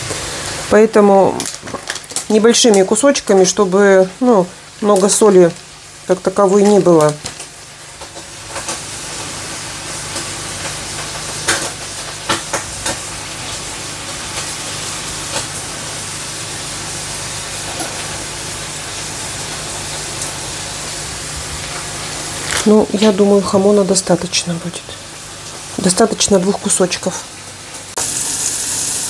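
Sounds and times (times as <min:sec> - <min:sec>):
cheese sizzling in a pan: 0:00.0 - 0:29.0.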